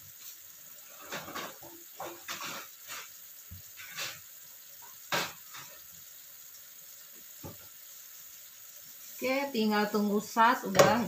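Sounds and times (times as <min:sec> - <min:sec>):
low hiss: 0:00.0 - 0:11.0
sauce bubbles popping in pan: 0:00.0 - 0:11.0.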